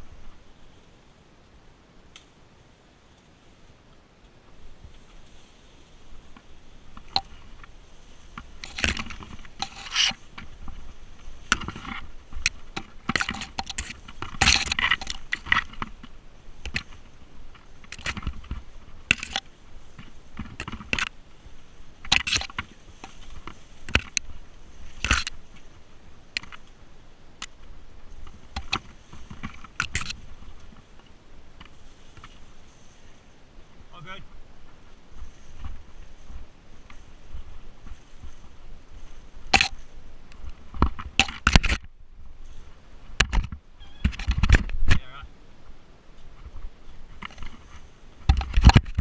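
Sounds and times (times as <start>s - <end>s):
bike clattering over rough ground: 6.1s - 26.8s, 27.4s - 32.6s, 34.4s - 45.0s, 46.3s - 49.0s.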